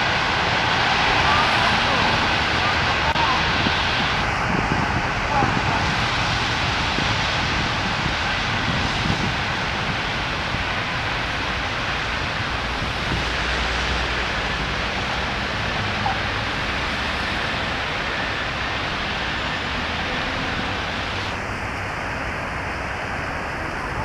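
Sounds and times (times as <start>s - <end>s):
train rumble on track: 0.0s - 24.0s.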